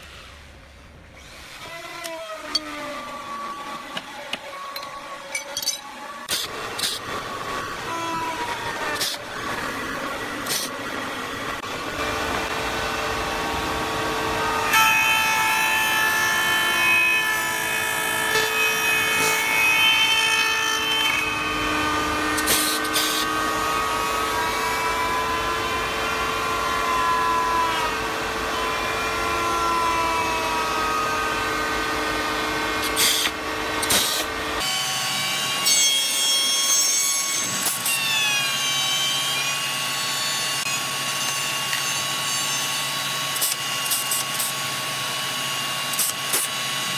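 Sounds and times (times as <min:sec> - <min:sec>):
woodworking machine whining: 0:01.2 - 0:46.9.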